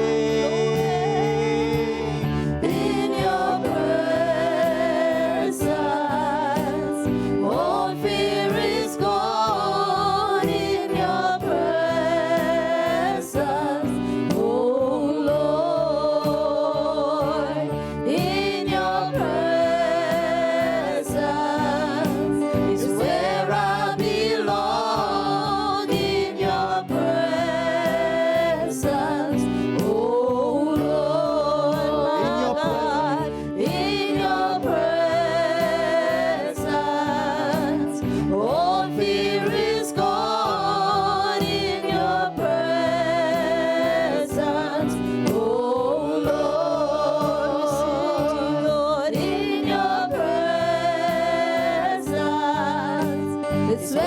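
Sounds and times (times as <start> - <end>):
gospel singing with vibrato: 0.0 - 54.0
musical accompaniment with beat: 0.0 - 54.0.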